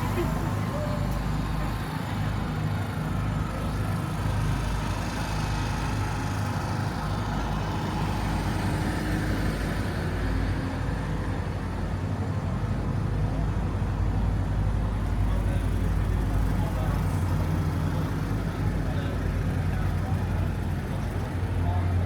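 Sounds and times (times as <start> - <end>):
truck engine idling: 0.0 - 10.8, 12.8 - 22.0.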